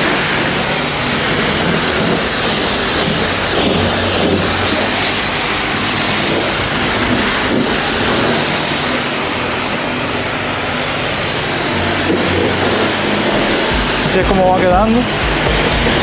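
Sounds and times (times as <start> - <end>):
pressure washer spray hissing: 0.0 - 16.0.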